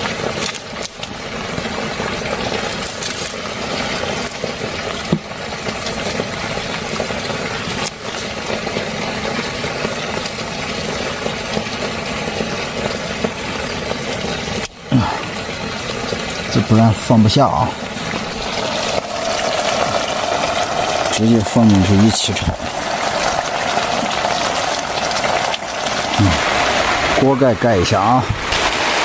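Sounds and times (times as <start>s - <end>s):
gas stove burner running: 0.0s - 26.2s
heavy rain drumming on a tarp: 0.0s - 29.0s.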